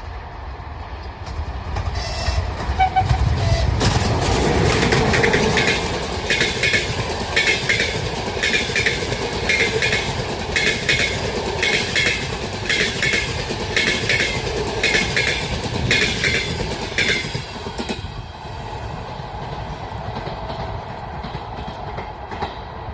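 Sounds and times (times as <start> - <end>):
train rumble: 0.0 - 22.9
train wheels clicking over rail joints: 1.2 - 22.9.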